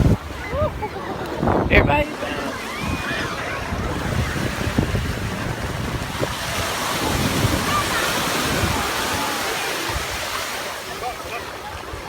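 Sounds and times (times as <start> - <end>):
wind buffeting microphone: 0.0 - 10.4
ocean surf washing onto beach: 0.0 - 12.0.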